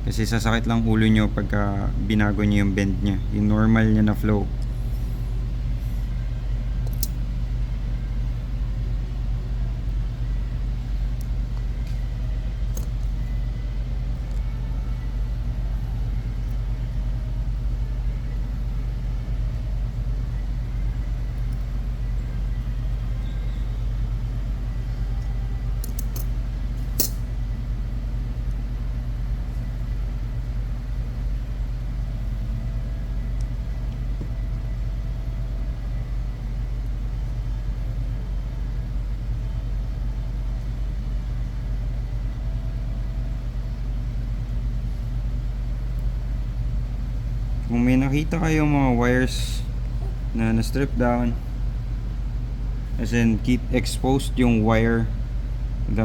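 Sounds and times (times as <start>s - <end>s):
low background rumble: 0.0s - 56.0s.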